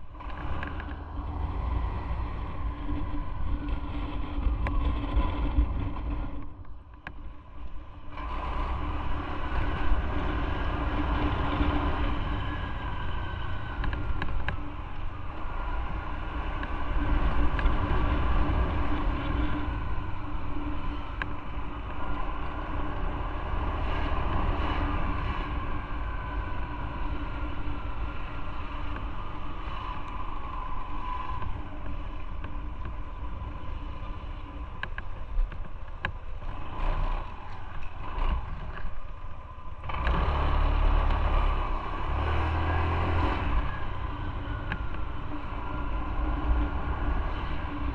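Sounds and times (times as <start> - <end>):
wind rumble: 0.0 - 47.9
motorcycle engine: 8.2 - 47.9.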